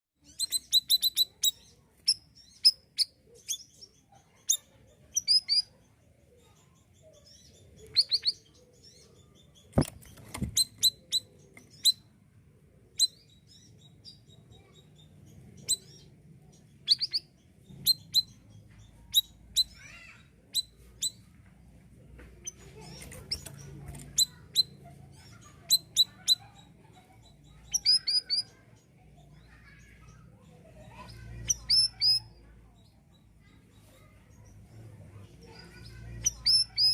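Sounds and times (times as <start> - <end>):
songbird chirping: 0.2 - 36.9.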